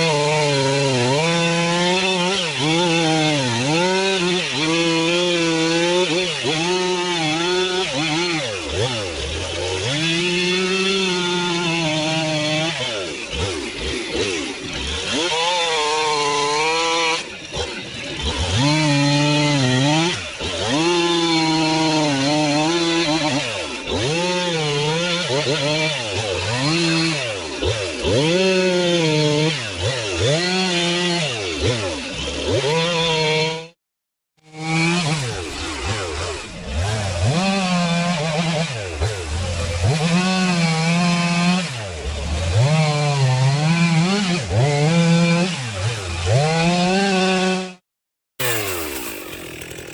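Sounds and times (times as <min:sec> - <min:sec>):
chainsaw cutting logs: 0:00.0 - 0:33.8, 0:34.4 - 0:47.8, 0:48.4 - 0:49.9.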